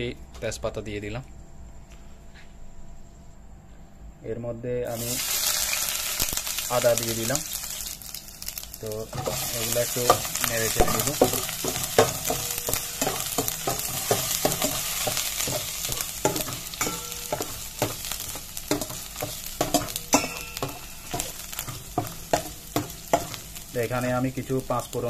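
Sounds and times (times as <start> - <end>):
oil sizzling: 4.9 - 25.0.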